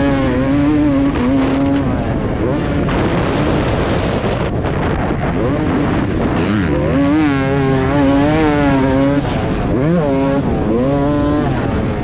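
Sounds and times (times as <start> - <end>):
dirt bike engine revving: 0.0 - 12.0
wind rush: 0.0 - 12.0.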